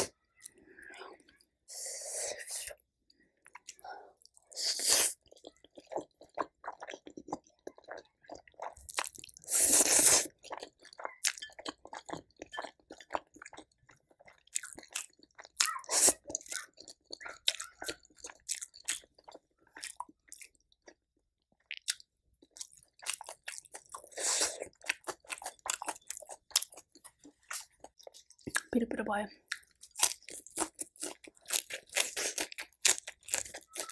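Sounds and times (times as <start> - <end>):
person chewing food: 0.0 - 28.7, 29.4 - 33.9.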